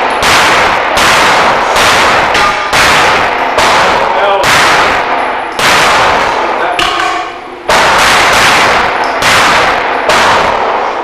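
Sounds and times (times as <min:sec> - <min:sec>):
pistol shots: 0:00.0 - 0:11.0.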